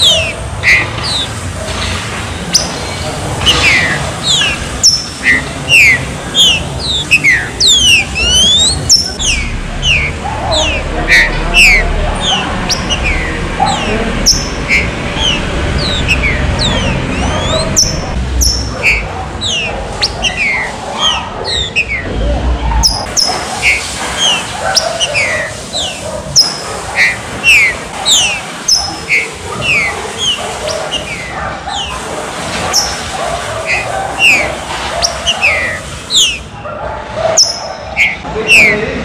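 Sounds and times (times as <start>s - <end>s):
birds singing whistled notes: 0.0s - 36.6s, 37.3s - 39.0s.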